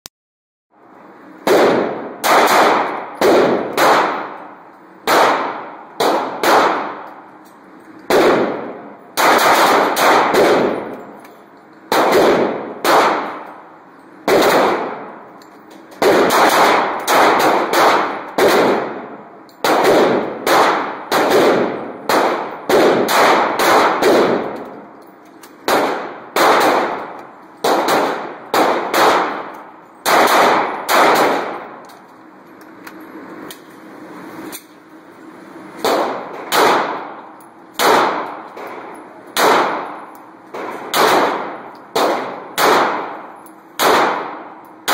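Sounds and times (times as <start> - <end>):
pistol shots echoing indoors: 1.3 - 32.3, 35.3 - 44.9.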